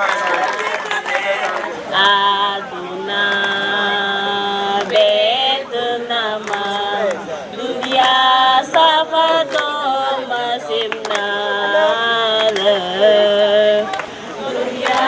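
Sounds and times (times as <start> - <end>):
voices chanting in held notes: 0.0 - 15.0.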